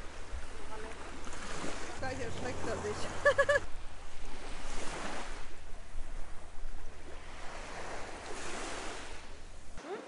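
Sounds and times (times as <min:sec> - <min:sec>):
small waves washing ashore: 0:00.0 - 0:10.0.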